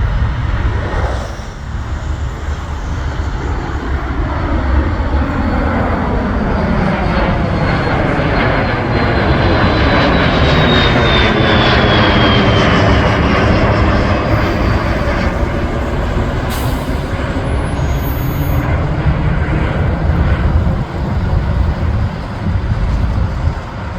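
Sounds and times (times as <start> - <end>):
high whine sliding down: 0.0 - 19.4
aircraft taking off: 0.0 - 23.9.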